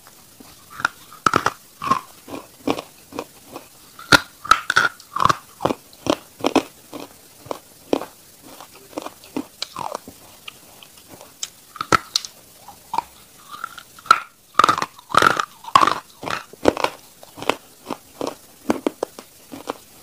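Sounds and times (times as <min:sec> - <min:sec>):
person chewing chalk crunches: 0:00.0 - 0:20.0.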